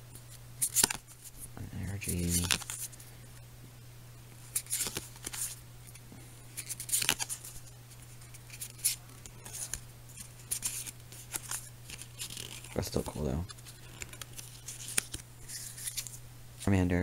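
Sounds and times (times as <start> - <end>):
steady low hum: 0.0 - 17.0
cards sliding and rustling: 0.1 - 3.1, 4.3 - 16.2.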